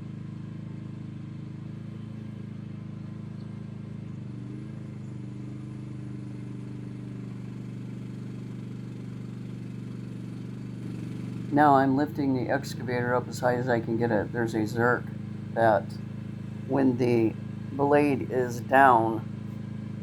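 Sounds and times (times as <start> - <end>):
diesel engine running: 3.8 - 20.0.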